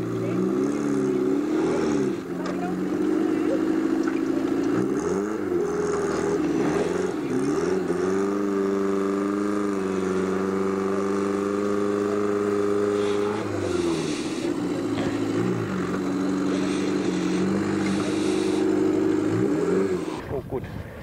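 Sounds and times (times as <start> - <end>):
off-road vehicle engine under load: 0.0 - 21.0.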